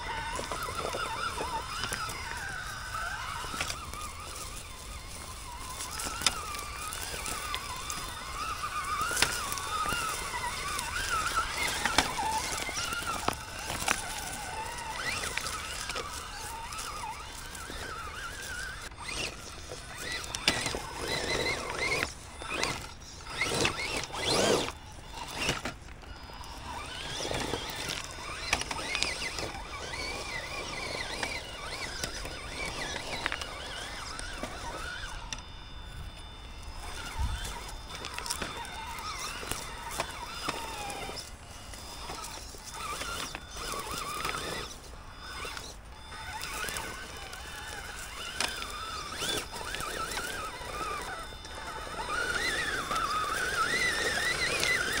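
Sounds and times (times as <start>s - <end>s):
electric motor whining: 0.0s - 55.0s
scraping and clatter: 0.0s - 55.0s.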